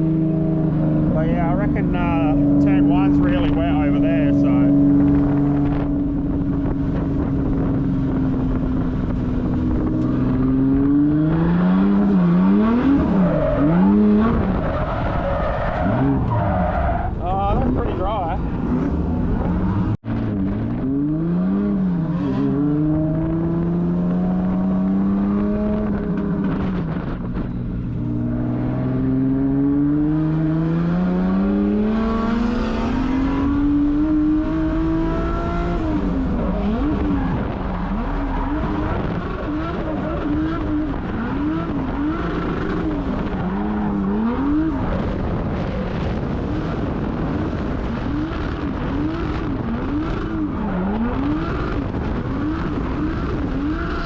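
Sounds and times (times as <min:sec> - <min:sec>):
car engine revving hard: 0:00.0 - 0:06.8, 0:09.7 - 0:15.2, 0:17.4 - 0:26.8, 0:28.0 - 0:54.0.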